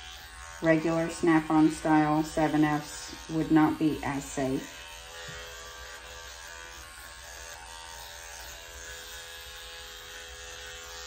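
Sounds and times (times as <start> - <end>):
dog clipper buzzing: 0.0 - 11.0.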